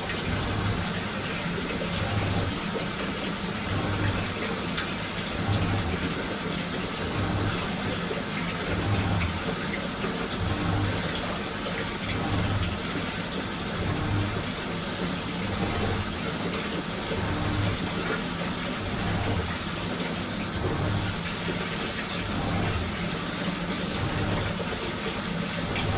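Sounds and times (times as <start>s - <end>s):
washing machine motor hum: 0.0s - 25.9s
water sloshing in washing machine: 0.0s - 25.9s.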